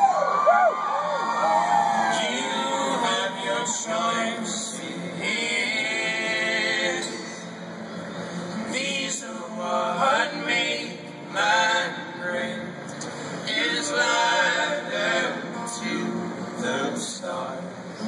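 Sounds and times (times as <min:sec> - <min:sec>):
men singing in harmony: 0:02.0 - 0:07.6, 0:08.6 - 0:18.0.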